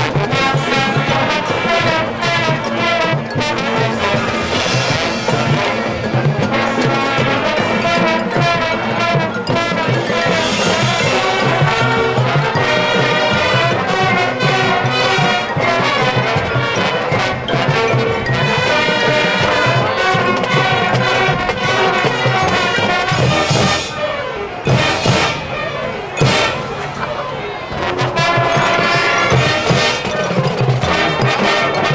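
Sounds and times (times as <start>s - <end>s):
brass section playing chords: 0.0s - 31.9s
drum line: 0.0s - 31.9s
percussion: 0.0s - 31.9s.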